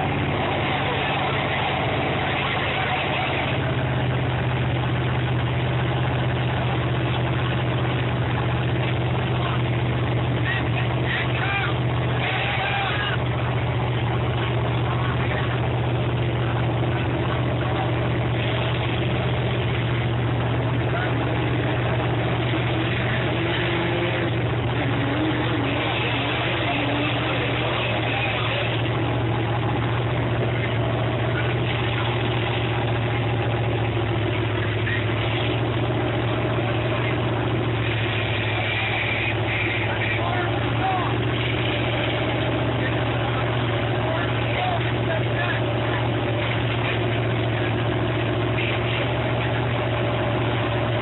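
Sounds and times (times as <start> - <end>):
vehicle engine idling: 0.0 - 51.0
faint background voices: 6.6 - 51.0.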